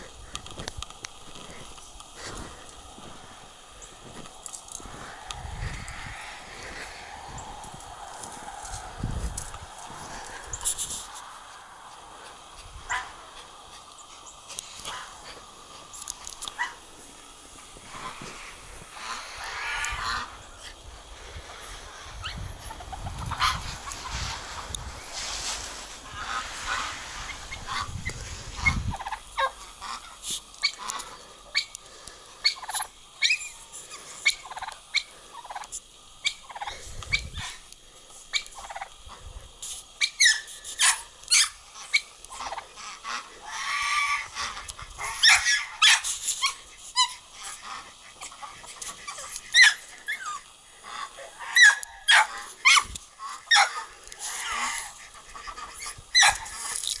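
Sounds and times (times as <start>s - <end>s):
domestic waterfowl calling: 0.0s - 57.0s.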